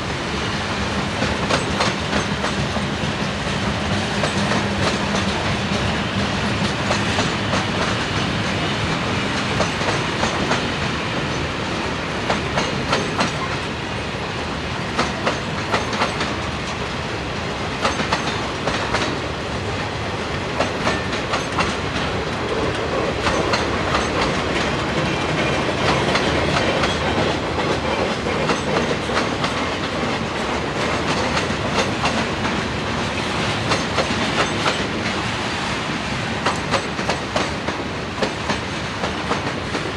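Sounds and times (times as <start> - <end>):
train wheels clacking over rail joints: 0.1 - 39.9.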